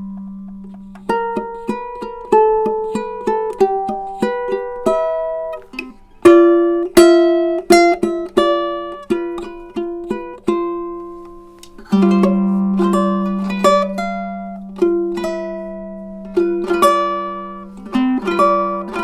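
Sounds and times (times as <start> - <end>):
ukulele plucked notes and chords: 0.0 - 19.0.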